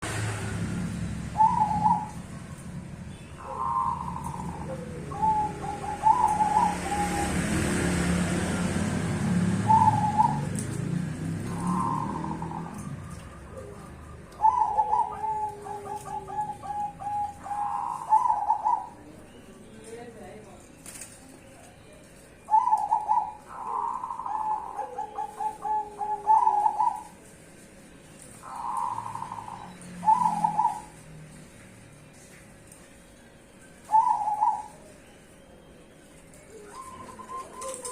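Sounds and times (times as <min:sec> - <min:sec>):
dove cooing: 0:00.4 - 0:19.6, 0:21.9 - 0:32.4, 0:33.0 - 0:37.9.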